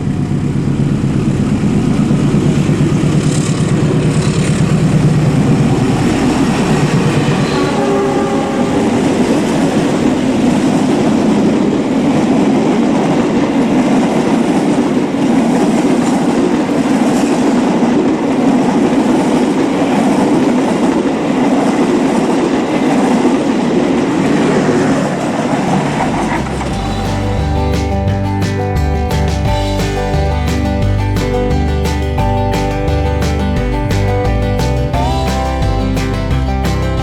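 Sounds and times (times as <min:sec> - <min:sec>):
train wheels clattering on rails: 0:01.5 - 0:37.0.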